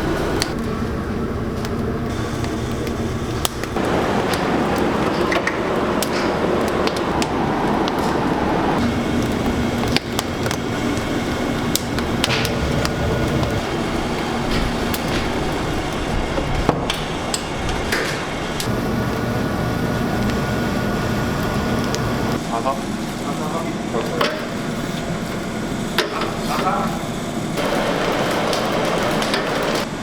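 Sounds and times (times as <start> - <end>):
steady background hum: 0.0 - 30.0.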